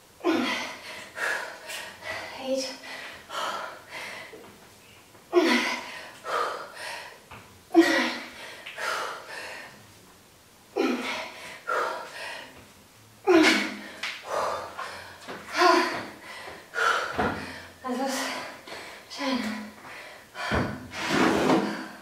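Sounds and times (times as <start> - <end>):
woman breathing hard: 0.2 - 4.6, 5.3 - 9.9, 10.8 - 22.0.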